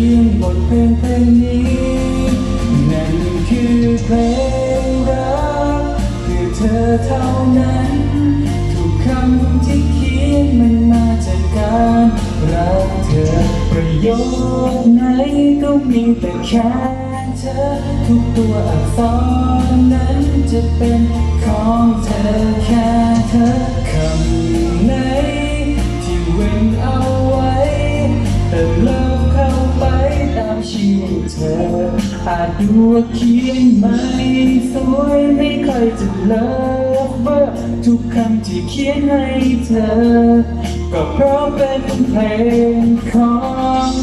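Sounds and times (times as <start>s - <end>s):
held bass line: 0.0s - 44.0s
man singing into microphone: 0.0s - 44.0s
musical accompaniment: 0.0s - 44.0s.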